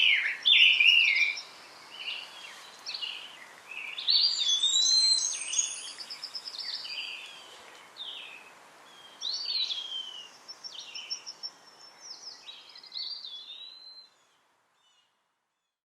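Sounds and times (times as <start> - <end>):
faint outdoor hiss: 0.0 - 15.8
songbirds singing: 0.0 - 15.8.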